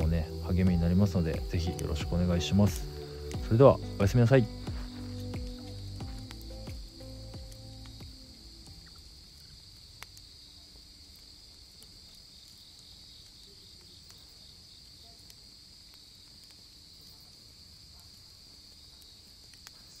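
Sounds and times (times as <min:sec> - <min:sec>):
campfire crackles: 0:00.0 - 0:20.0
crickets trilling: 0:00.0 - 0:20.0.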